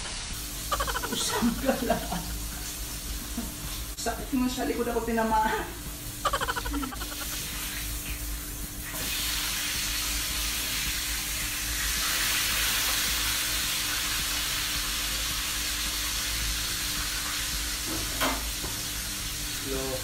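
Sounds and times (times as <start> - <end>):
lobster sizzling in hot oil: 0.0 - 20.0.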